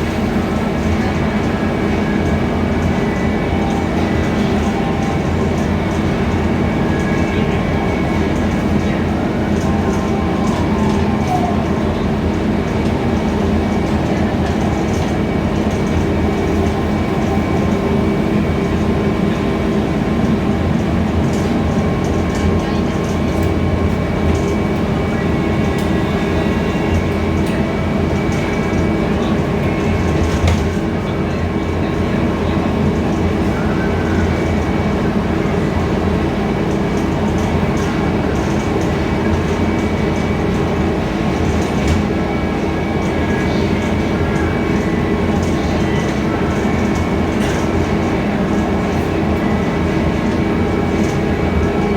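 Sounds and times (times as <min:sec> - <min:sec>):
bus engine drone: 0:00.0 - 0:51.9.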